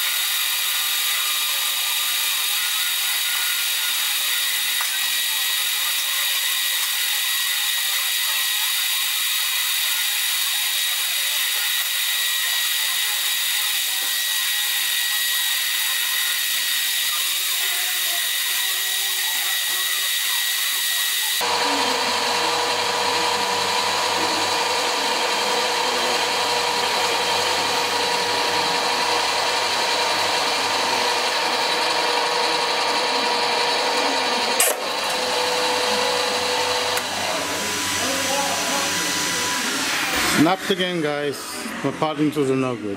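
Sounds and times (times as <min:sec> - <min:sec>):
lathe machine whine: 0:00.0 - 0:42.9.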